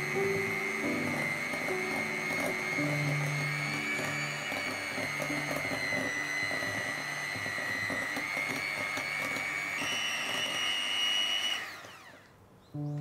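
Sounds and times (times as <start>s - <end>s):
electric hand mixer whine: 0.0s - 13.0s.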